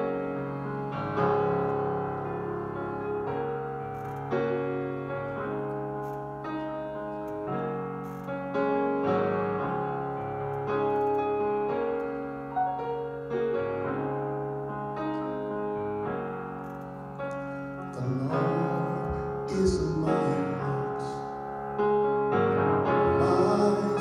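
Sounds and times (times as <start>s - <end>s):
piano chords: 0.0s - 24.0s.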